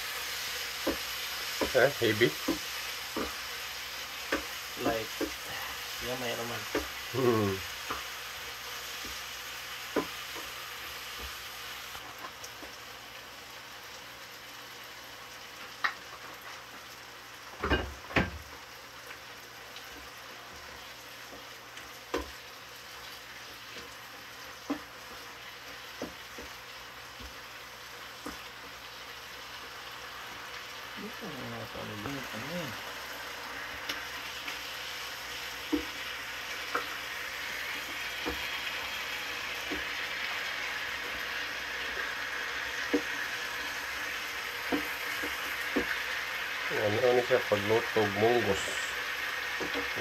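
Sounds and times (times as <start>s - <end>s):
vegetables sizzling in frying pan: 0.0s - 50.0s.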